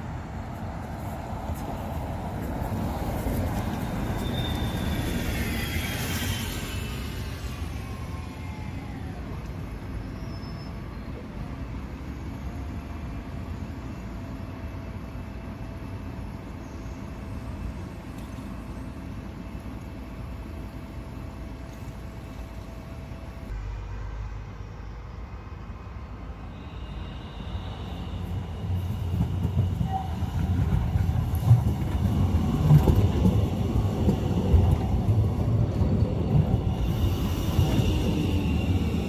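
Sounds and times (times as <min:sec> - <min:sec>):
tram rumbling: 0:00.0 - 0:39.0.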